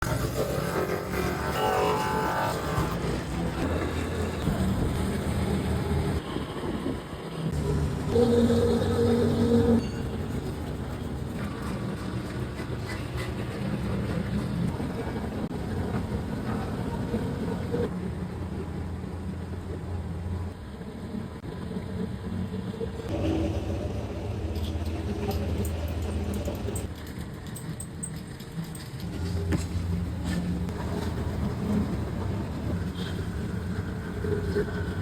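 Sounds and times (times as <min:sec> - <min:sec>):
machinery hum and rumble: 0:00.0 - 0:35.0.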